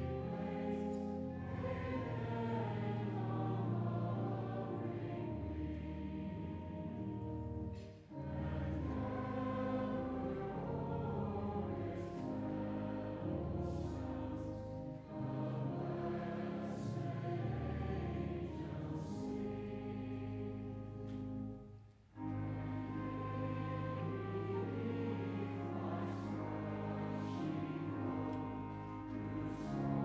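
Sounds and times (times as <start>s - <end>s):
choir singing sustained chords: 0.0s - 30.0s.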